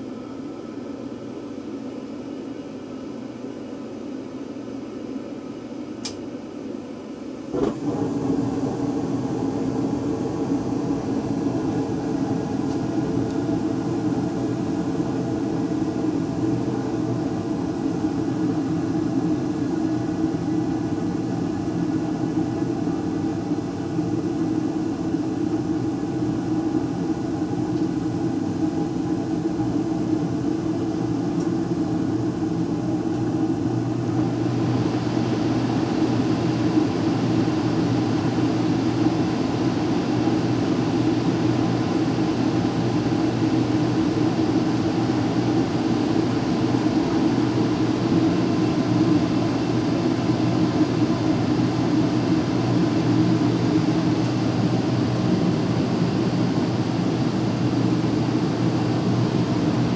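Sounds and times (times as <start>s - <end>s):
furnace humming: 7.4s - 59.9s.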